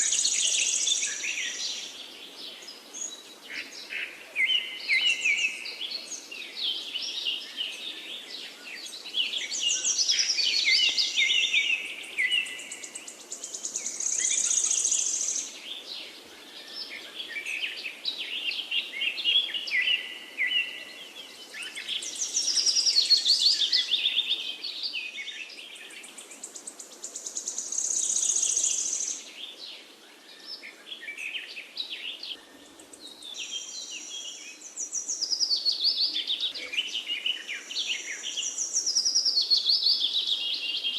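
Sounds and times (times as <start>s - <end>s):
faint background hiss: 0.0s - 40.9s
songbirds chirping and singing: 0.0s - 40.9s.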